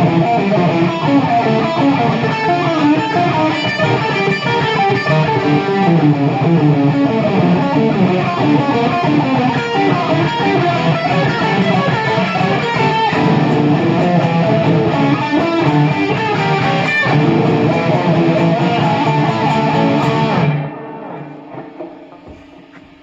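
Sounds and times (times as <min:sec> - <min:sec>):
plucked and strummed guitar: 0:00.0 - 0:23.0.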